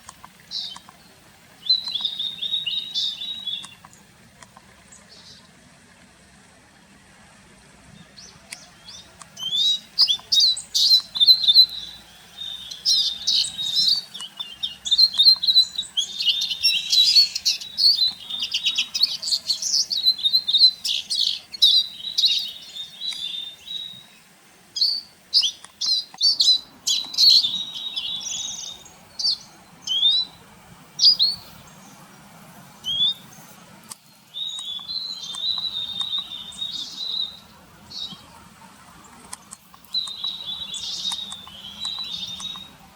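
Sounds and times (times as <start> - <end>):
flock of birds twittering: 0.0 - 5.6, 7.7 - 42.9.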